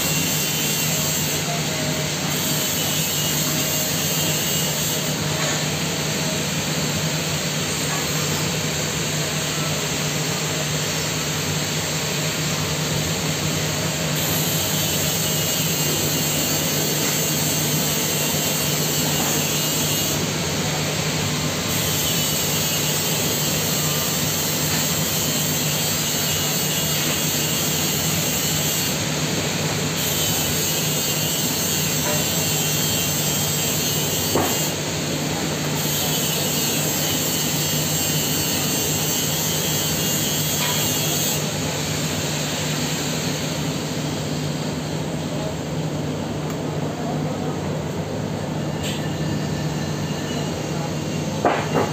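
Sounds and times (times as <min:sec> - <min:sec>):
workshop machinery drone: 0:00.0 - 0:51.9.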